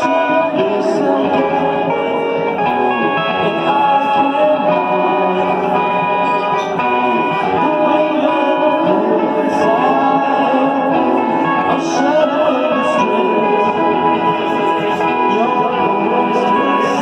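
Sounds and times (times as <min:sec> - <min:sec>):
guitar: 0:00.0 - 0:17.0
keyboard chords: 0:00.0 - 0:17.0
man singing into a microphone: 0:00.0 - 0:17.0.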